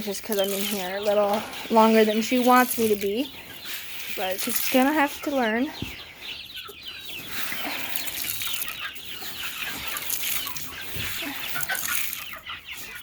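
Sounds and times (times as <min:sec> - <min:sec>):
chicks peeping and clucking: 0:00.0 - 0:13.0.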